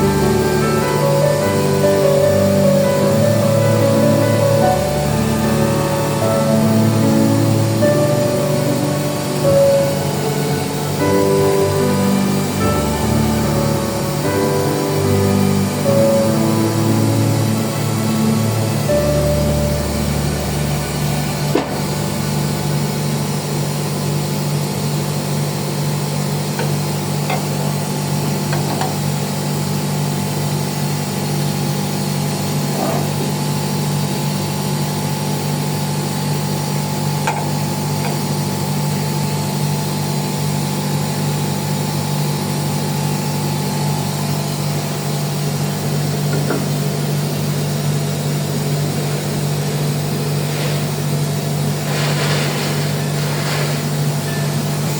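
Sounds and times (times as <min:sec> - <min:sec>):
low machine hum: 0:00.0 - 0:54.9.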